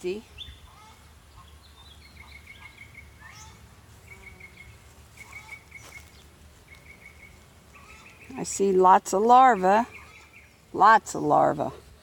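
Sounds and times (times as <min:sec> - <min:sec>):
birds chirping: 0:00.0 - 0:12.0
lower bird calls: 0:00.2 - 0:11.6
high rapid bird trills: 0:00.2 - 0:11.7.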